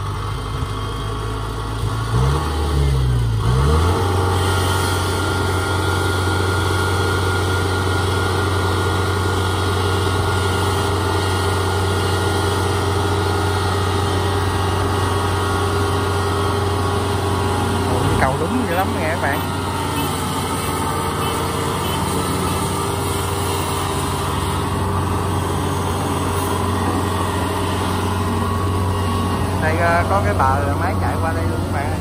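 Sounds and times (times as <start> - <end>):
combine harvester diesel engine: 0.0 - 32.0.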